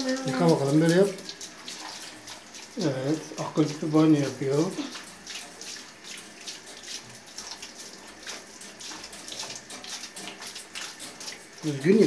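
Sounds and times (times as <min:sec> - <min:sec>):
shower spray hissing and splashing: 0:00.0 - 0:12.0.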